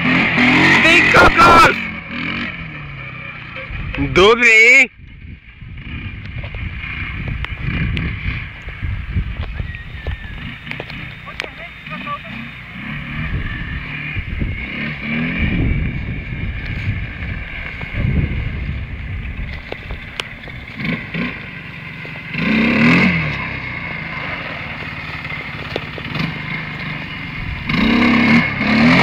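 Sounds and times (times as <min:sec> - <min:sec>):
quad bike engine revving: 0:00.0 - 0:29.0.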